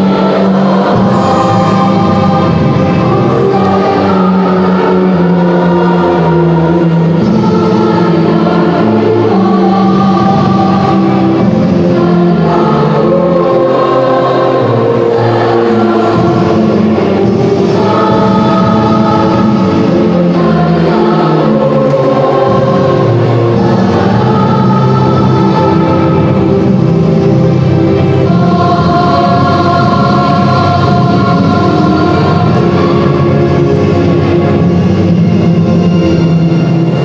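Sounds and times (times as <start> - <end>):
choir singing in harmony: 0.0 - 37.0.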